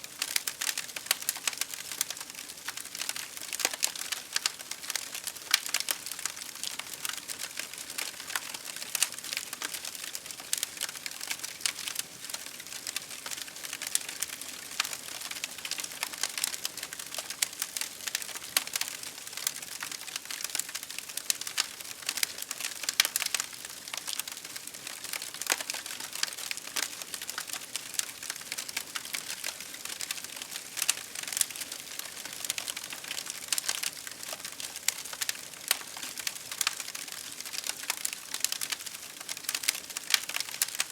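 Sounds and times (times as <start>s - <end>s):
campfire crackling: 0.1s - 40.9s.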